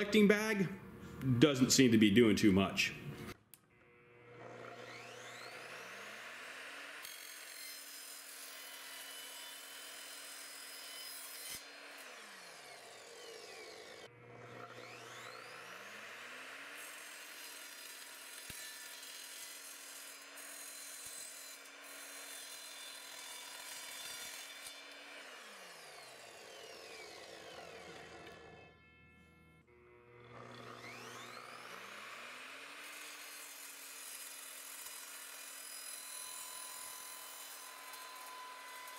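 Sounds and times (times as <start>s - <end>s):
saw motor whining: 3.0s - 38.9s
saw blade screeching through metal: 4.2s - 14.1s, 14.7s - 28.7s, 30.5s - 38.9s.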